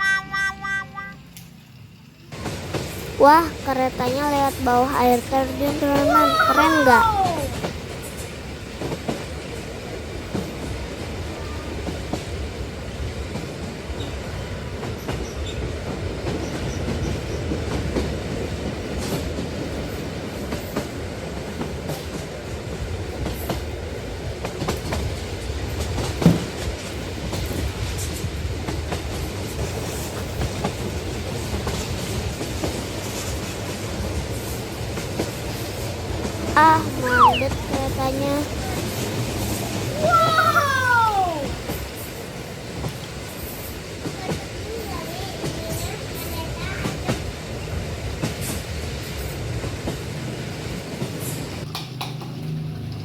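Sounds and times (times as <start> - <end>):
model train running on track: 0.0 - 36.3, 38.2 - 51.9.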